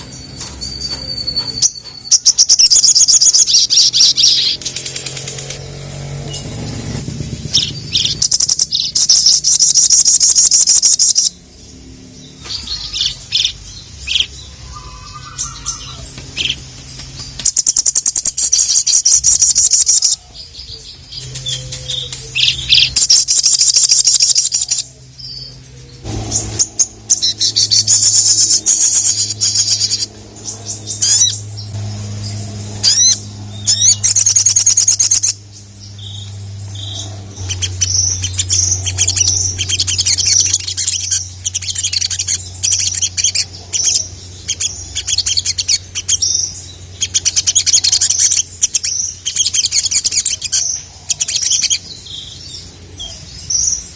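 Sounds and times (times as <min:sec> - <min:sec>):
bird chips: 0:00.0 - 0:11.4, 0:12.2 - 0:53.9
bird trilling: 0:00.0 - 0:53.9.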